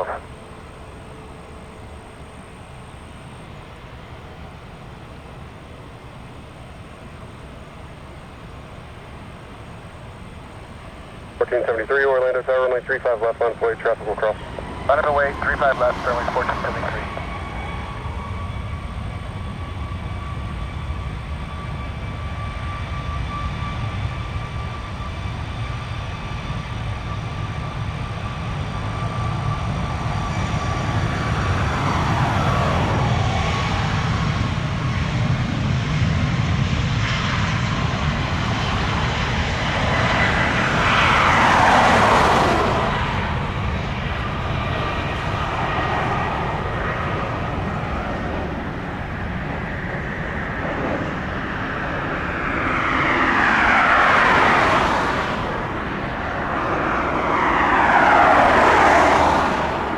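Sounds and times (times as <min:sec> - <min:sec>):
jet airliner engines passing: 0:00.0 - 0:59.9.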